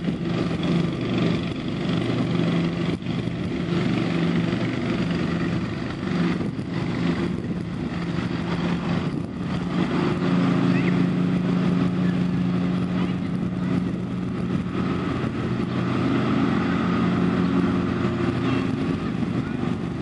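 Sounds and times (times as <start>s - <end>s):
cutting deck whirring: 0.0s - 20.0s
lawn tractor engine humming: 0.0s - 20.0s.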